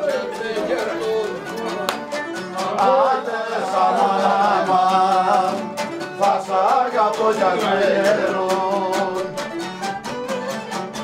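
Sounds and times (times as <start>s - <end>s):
man singing folk song: 0.0s - 10.6s
plucked lute: 0.0s - 11.0s.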